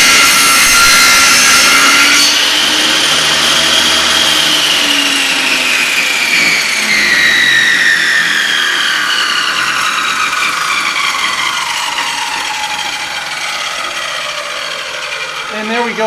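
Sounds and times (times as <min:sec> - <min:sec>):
table saw winding down: 0:00.0 - 0:16.0.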